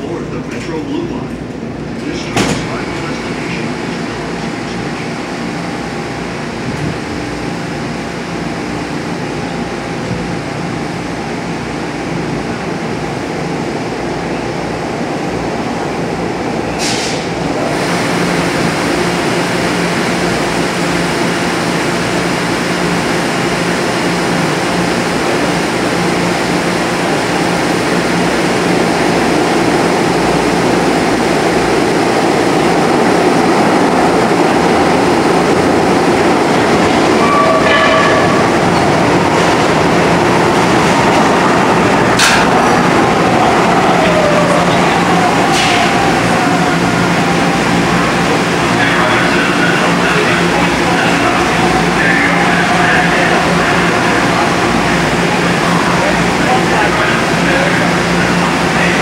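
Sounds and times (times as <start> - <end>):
train hum and rumble: 0.0 - 59.0.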